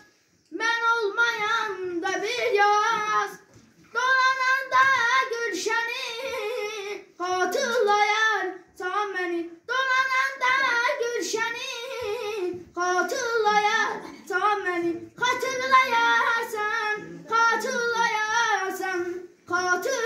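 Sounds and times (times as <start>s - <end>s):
boy singing unaccompanied: 0.0s - 20.0s.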